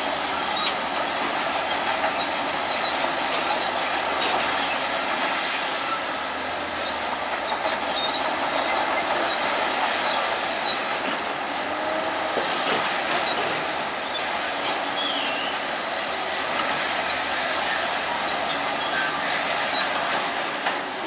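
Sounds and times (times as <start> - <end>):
bulldozer tracks clanking and squealing: 0.0 - 21.0.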